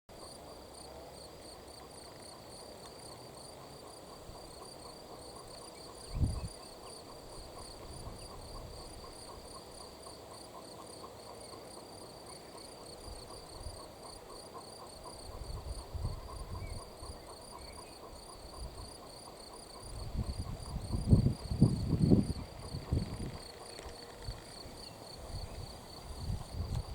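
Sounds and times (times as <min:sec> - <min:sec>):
crickets chirping: 0:00.1 - 0:26.9.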